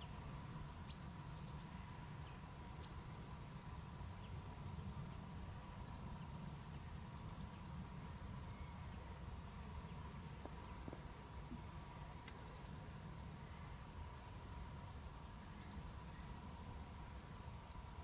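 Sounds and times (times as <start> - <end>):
faint bird chirps: 0.0 - 17.9
faint steady tone: 0.0 - 18.0
low steady rumble: 0.0 - 18.0.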